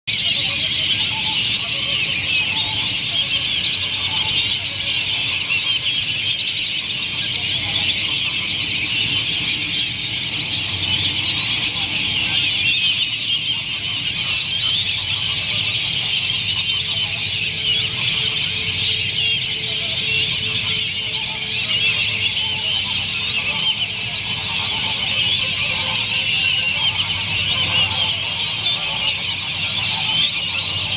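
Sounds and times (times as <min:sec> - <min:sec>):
flock of ducks calling: 0:00.1 - 0:30.9.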